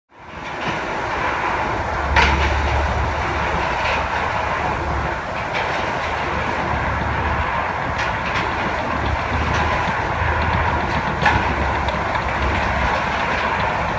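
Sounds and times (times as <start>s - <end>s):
heavy machinery engine rumble: 0.2s - 13.9s.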